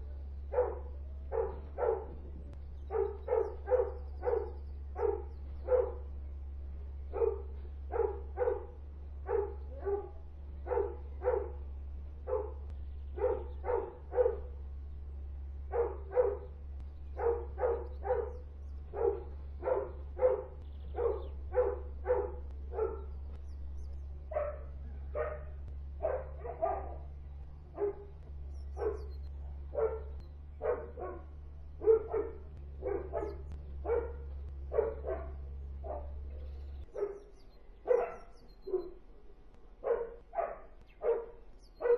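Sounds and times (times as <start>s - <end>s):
dogs barking: 0.0s - 41.9s
steady low hum: 0.0s - 41.9s.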